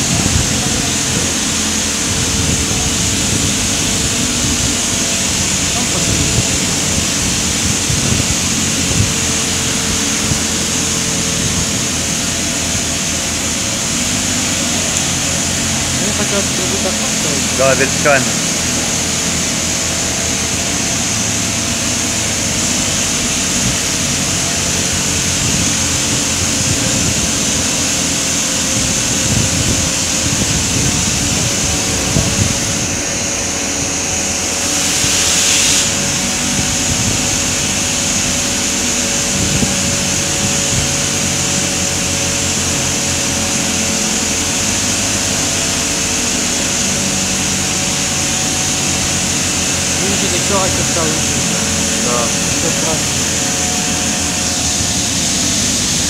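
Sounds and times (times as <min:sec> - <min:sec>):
high hiss: 0:00.0 - 0:56.0
loud hiss: 0:00.0 - 0:56.0
machinery hum: 0:00.0 - 0:56.0.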